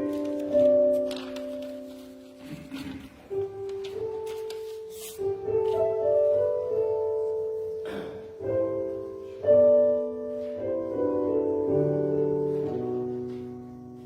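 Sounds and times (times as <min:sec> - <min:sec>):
slow piano piece: 0:00.0 - 0:14.0.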